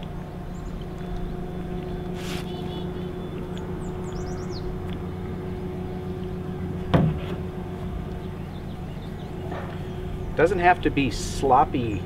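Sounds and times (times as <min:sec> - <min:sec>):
low mechanical hum: 0:00.0 - 0:12.0
bird chirping: 0:00.2 - 0:06.8, 0:07.7 - 0:11.0.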